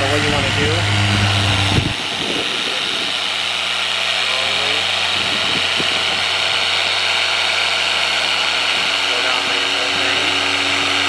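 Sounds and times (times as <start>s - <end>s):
electric polisher motor whirring: 0.0s - 11.0s.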